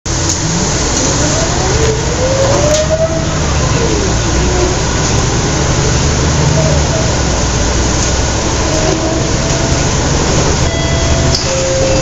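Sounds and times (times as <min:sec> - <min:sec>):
diesel bus engine rumble: 0:00.1 - 0:12.0.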